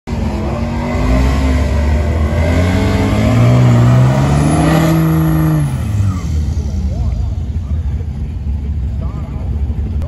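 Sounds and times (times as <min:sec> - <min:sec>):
pickup engine revving: 0:00.1 - 0:10.0.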